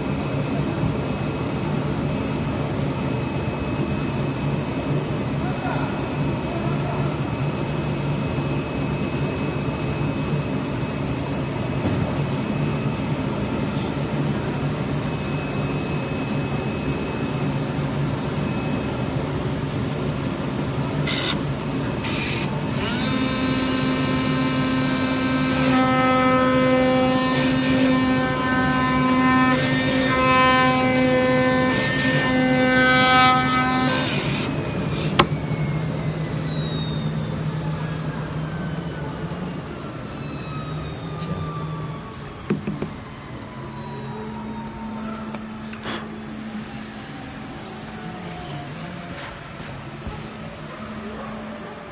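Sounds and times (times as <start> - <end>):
low machine hum: 0.0 - 47.2
pulsing motor whine: 0.0 - 49.0.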